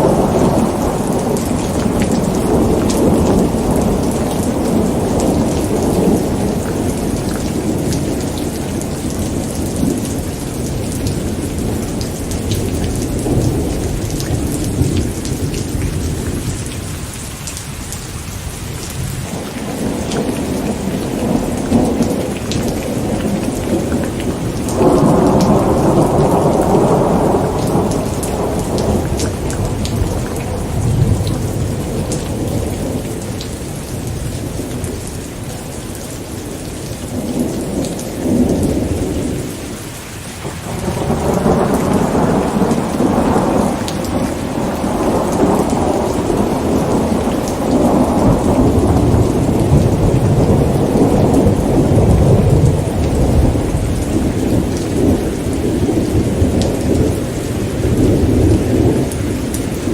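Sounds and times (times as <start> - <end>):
rolling thunder: 0.0 - 17.0, 18.8 - 35.1, 40.4 - 59.9
steady rain: 0.0 - 59.9.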